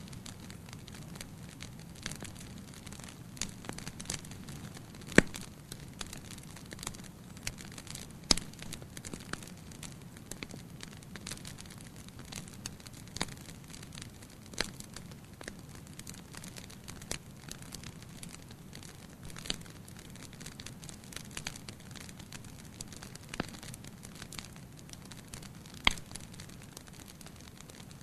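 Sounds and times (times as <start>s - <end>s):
fire crackling and popping: 0.0s - 28.0s
soft fire hiss: 0.0s - 28.0s.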